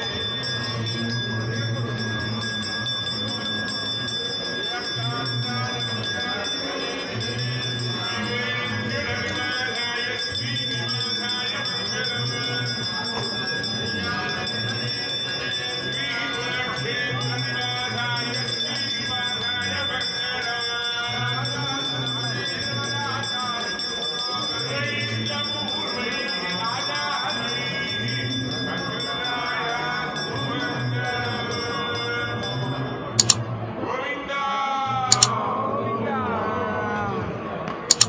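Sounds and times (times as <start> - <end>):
devotional singing: 4.7 - 23.7, 24.3 - 38.0.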